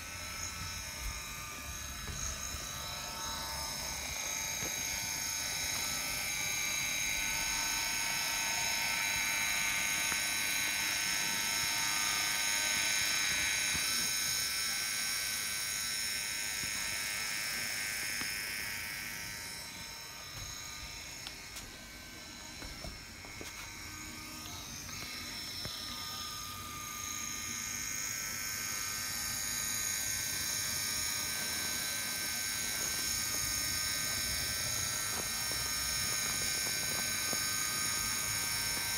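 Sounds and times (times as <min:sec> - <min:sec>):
model locomotive motor whine: 0:00.0 - 0:38.9.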